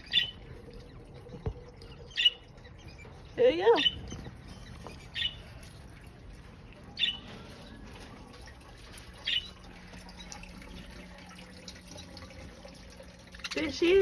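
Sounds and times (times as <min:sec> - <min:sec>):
caged bird chirping: 0:00.0 - 0:14.0.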